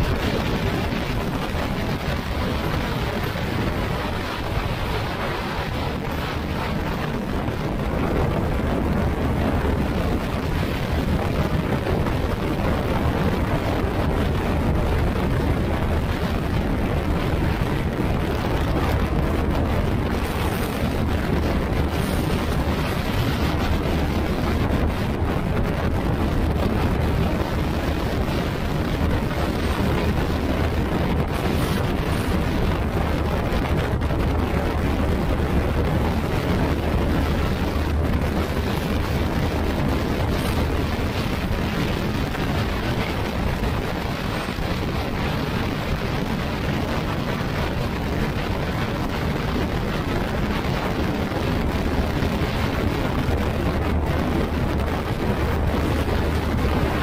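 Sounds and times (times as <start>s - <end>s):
scooter engine drone: 0.0s - 57.0s
wind on microphone: 0.0s - 57.0s.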